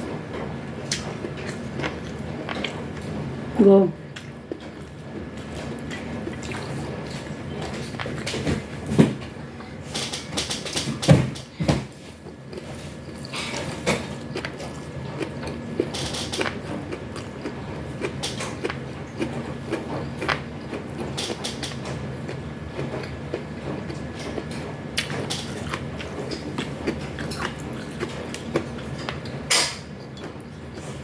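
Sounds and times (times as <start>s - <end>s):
person chewing: 0.8s - 3.2s, 4.1s - 8.4s, 12.2s - 31.0s.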